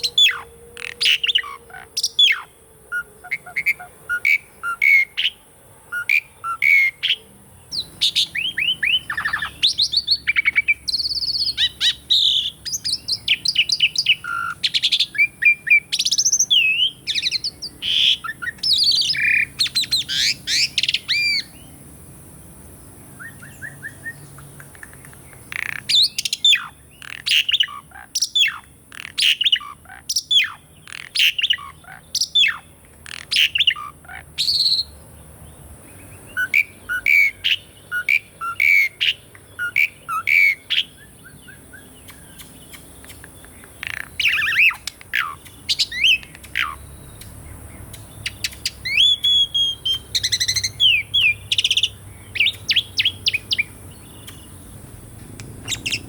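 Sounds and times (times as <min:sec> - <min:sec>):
starling singing: 0:00.0 - 0:21.8, 0:23.2 - 0:35.0, 0:36.0 - 0:56.0.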